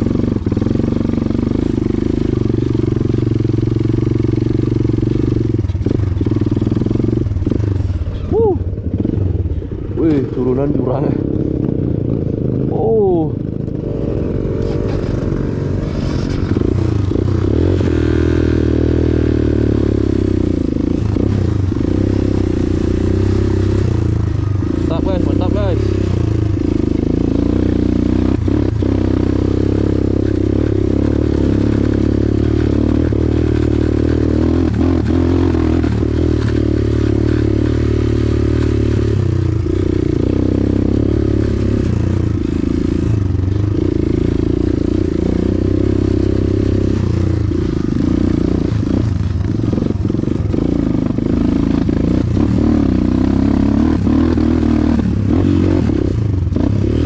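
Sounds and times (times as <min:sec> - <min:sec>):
knocks and rattles from bike: 0:00.0 - 0:09.2, 0:10.6 - 0:18.0, 0:18.6 - 0:57.0
motorcycle engine revving: 0:00.0 - 0:57.0.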